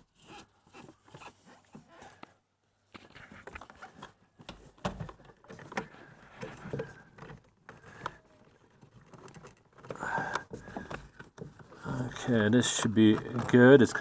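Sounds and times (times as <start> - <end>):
rustling and scraping of wiring: 0.0 - 14.0.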